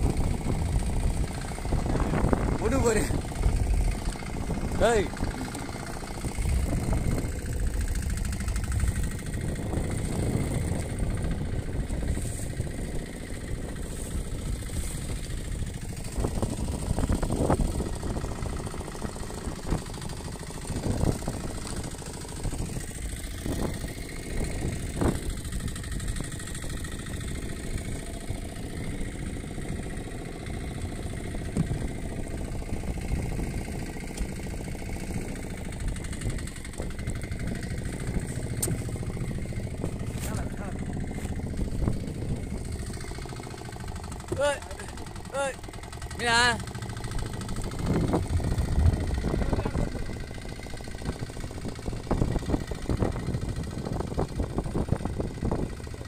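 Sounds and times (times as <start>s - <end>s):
outboard engine running: 0.0s - 56.0s.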